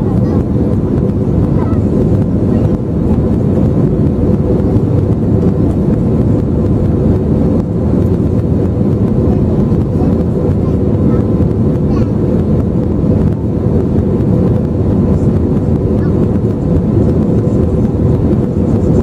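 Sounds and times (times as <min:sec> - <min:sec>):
airplane cabin engine hum: 0:00.0 - 0:19.0.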